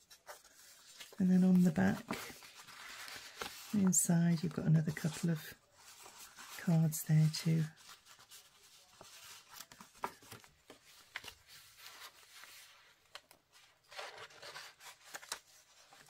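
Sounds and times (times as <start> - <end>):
paper rustling: 0.0 - 16.0.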